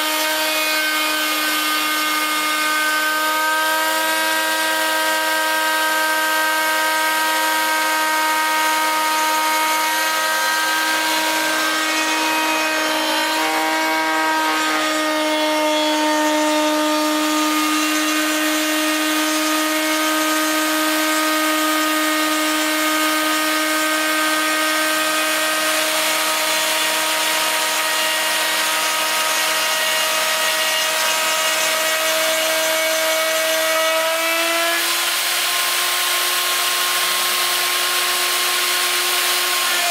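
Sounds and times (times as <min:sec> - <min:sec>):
bit rasping through wood: 0:00.0 - 0:39.9
router motor whine: 0:00.0 - 0:39.9.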